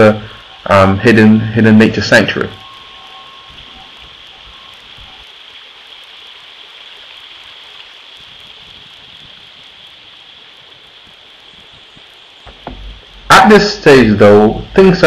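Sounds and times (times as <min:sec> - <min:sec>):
stream water running over rocks: 0:00.0 - 0:15.0.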